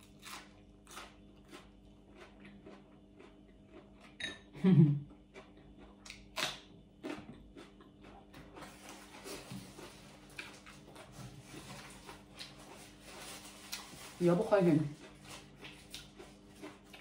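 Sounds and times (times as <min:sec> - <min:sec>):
chewing crunchy vegetable: 0:00.0 - 0:04.2, 0:05.0 - 0:17.0.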